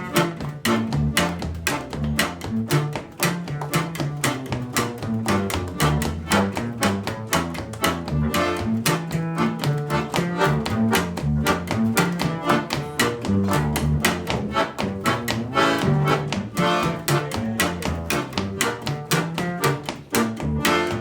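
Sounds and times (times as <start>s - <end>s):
instrumental band music: 0.0s - 21.0s.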